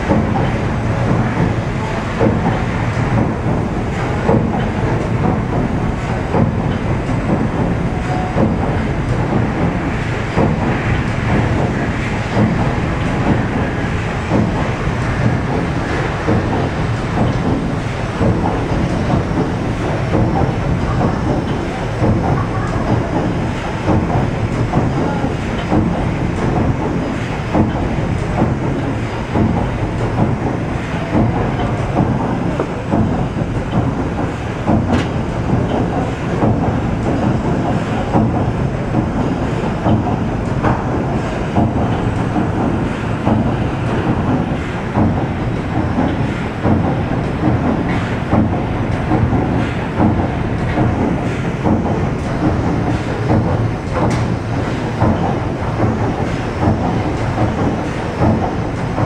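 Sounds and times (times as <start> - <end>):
paddle wheel churning water: 0.0 - 59.0.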